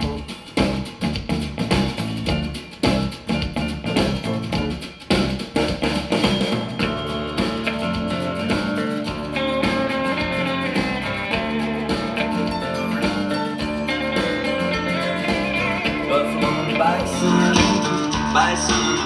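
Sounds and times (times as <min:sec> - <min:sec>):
rock song over loudspeakers: 0:00.0 - 0:19.0.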